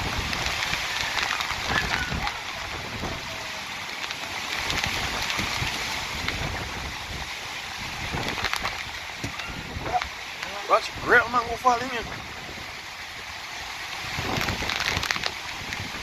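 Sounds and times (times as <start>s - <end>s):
heavy rain: 0.0s - 16.0s
hurricane wind: 0.0s - 16.0s
wind buffeting microphone: 0.0s - 16.0s.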